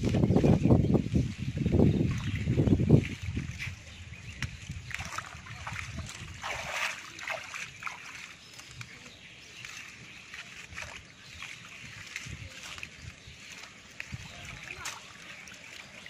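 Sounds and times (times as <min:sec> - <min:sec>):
hands splashing in muddy water: 0:02.0 - 0:16.0.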